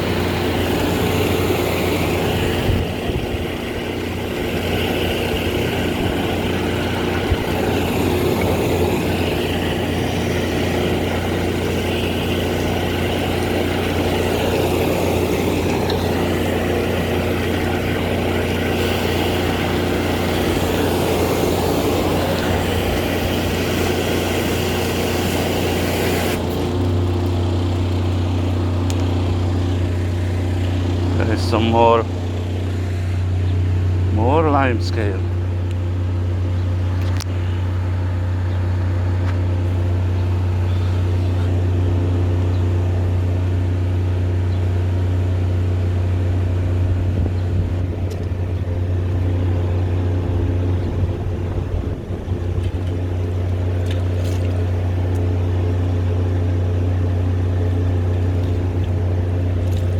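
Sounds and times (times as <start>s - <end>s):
water jet hissing: 0.0s - 44.1s, 47.7s - 59.9s
machine engine running: 0.0s - 59.9s.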